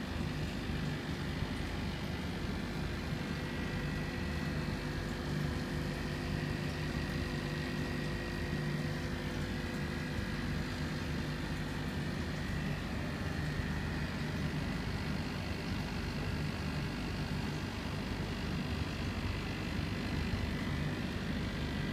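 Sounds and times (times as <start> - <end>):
aquarium equipment hum and hiss: 0.0 - 21.9.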